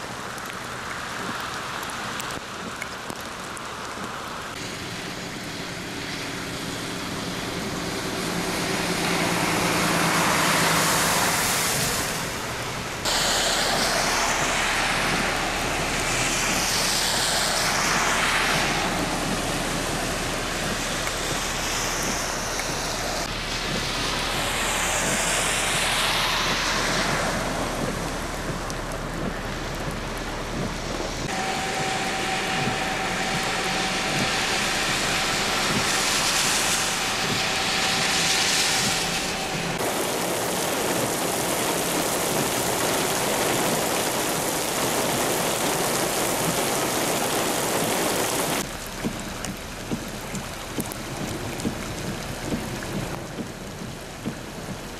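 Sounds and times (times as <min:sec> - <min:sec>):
heavy rain: 0:00.0 - 0:54.9
tyres splashing through water: 0:00.0 - 0:54.9.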